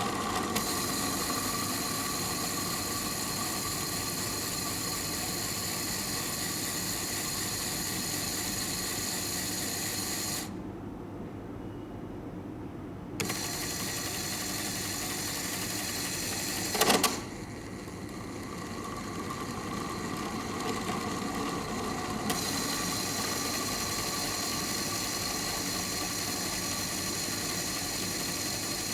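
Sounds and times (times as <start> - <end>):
small electric motor running: 0.0 - 10.6, 13.2 - 28.9.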